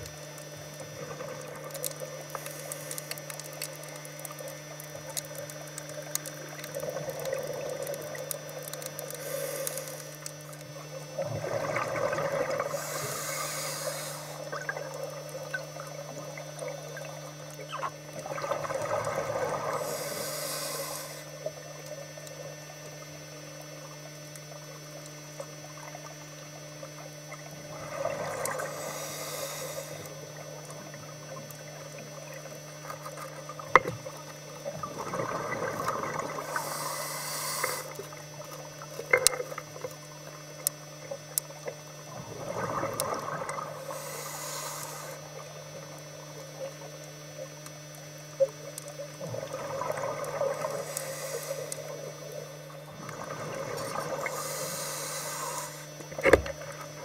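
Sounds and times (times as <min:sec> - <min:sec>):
regulator bubbling and hissing: 0:00.0 - 0:57.0
steady low hum: 0:00.0 - 0:57.0.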